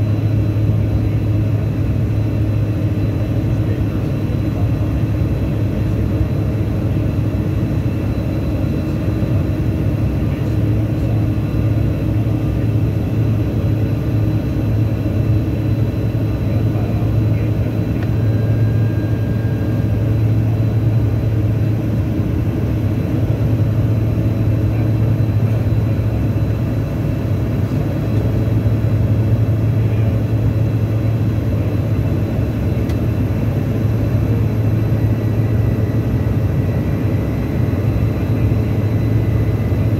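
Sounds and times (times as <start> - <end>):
jet cabin engine drone: 0.0 - 39.9.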